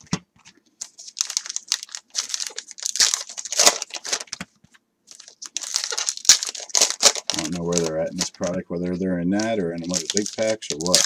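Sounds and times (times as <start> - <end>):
cards rustling in hands: 0.0 - 11.0
wrapper crinkling: 0.8 - 4.5, 5.1 - 11.0.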